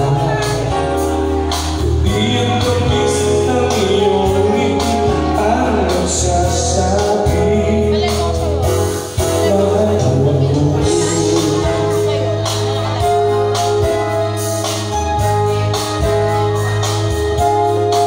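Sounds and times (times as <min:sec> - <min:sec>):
amplified backing music with bass: 0:00.0 - 0:18.0
person singing into microphone: 0:00.0 - 0:18.0.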